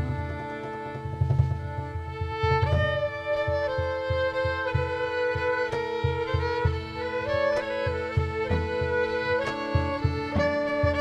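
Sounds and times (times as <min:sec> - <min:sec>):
fiddle melody: 0:00.0 - 0:11.0
regular low beat: 0:00.0 - 0:11.0.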